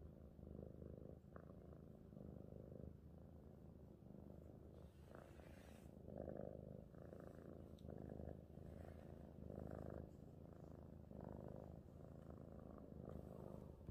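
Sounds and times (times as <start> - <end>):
cat purring: 0.0 - 13.9.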